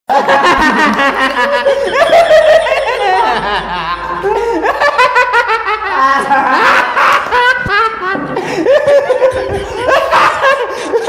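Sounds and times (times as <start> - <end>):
young men laughing: 0.1 - 11.0.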